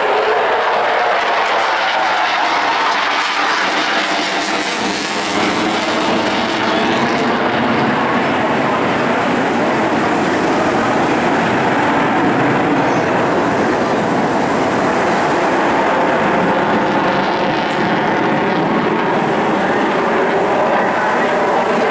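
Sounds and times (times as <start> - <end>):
jet engines roaring: 0.0 - 21.9.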